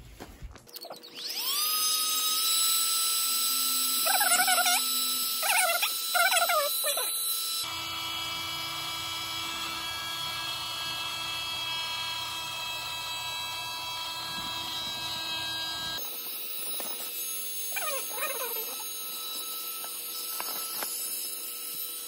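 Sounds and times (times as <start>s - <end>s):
electric air pump whining: 0.7s - 22.0s.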